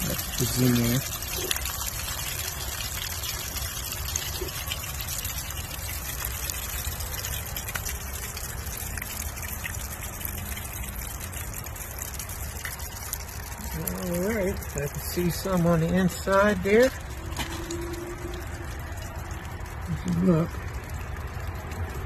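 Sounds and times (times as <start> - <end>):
water running out of drain: 0.0 - 22.0.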